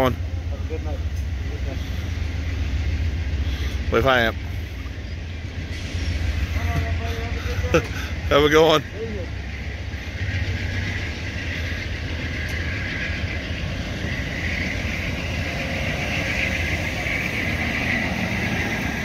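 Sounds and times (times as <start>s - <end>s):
steel wheels rumbling on rails: 0.0s - 19.0s
train hiss: 0.0s - 19.0s.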